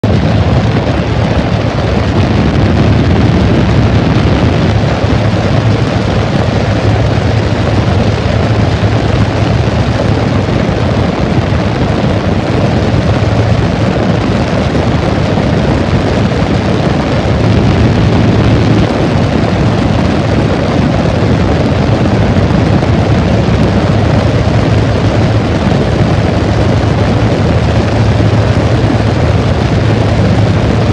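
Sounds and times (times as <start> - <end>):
loud rush of air: 0.0 - 30.9
low hum: 0.0 - 30.9.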